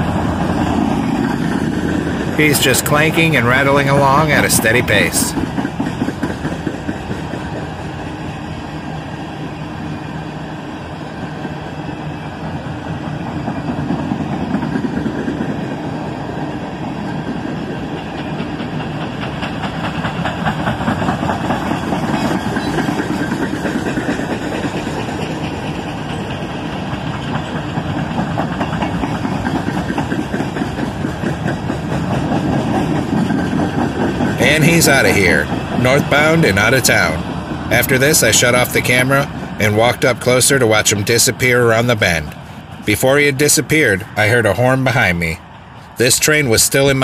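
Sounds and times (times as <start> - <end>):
freight train clanking and rattling: 0.0 - 47.0.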